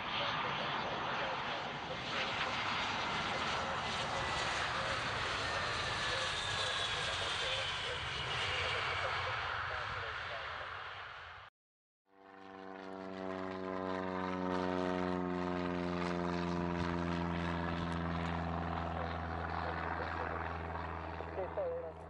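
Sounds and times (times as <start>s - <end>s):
propeller aircraft droning overhead: 0.0s - 11.5s, 12.1s - 22.0s.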